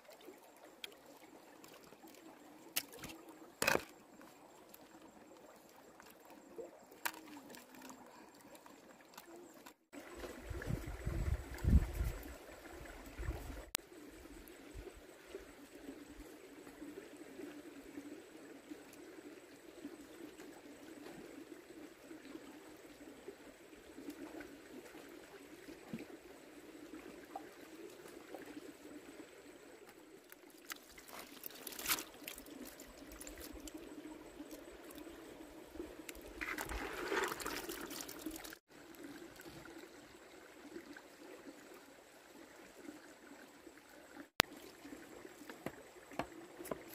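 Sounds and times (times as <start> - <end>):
stream trickling over rocks: 0.0 - 46.9.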